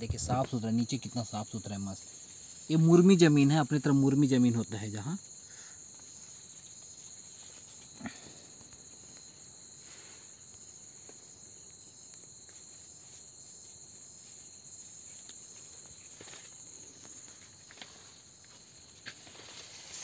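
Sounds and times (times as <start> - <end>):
crickets chirping chorus: 0.0 - 20.0.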